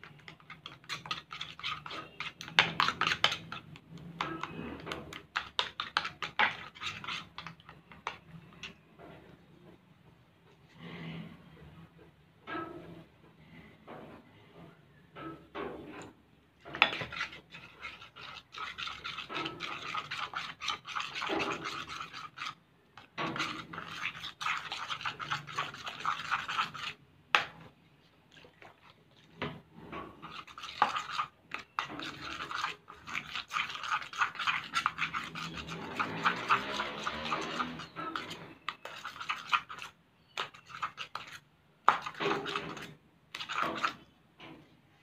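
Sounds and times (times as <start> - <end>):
metal spoon stirring slime in bowl: 0.0 - 8.8, 15.2 - 44.6.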